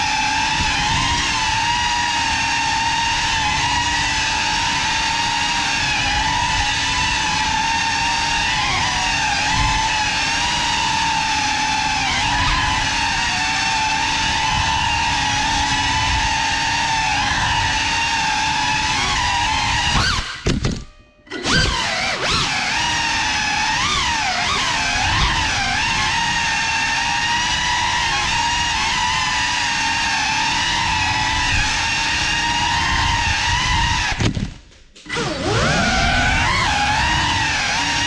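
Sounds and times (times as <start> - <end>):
drone motors whining: 0.0 - 38.0.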